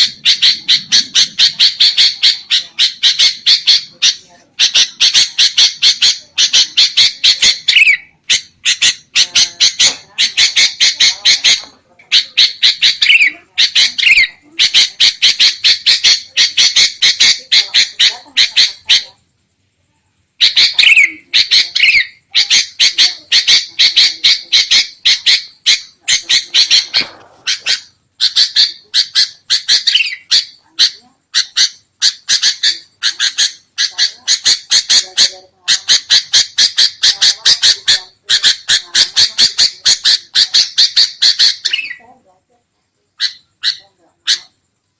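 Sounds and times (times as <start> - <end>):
bulbuls chattering calls: 0.0 - 19.3, 20.4 - 42.2, 43.2 - 44.6.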